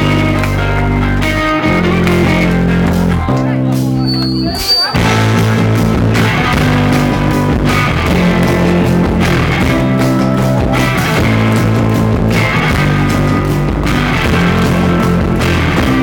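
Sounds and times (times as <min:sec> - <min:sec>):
bass guitar: 0:00.0 - 0:16.0
drums: 0:00.0 - 0:16.0
electric guitar: 0:00.0 - 0:16.0.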